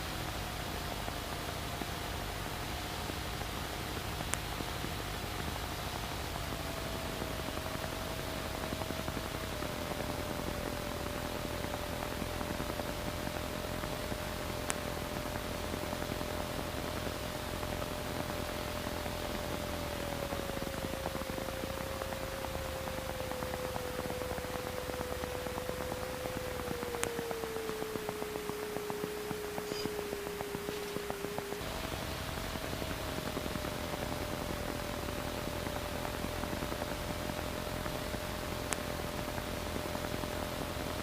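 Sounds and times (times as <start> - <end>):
aircraft engine and airflow hiss: 0.0 - 41.0
engine tone dropping in pitch: 4.2 - 41.0.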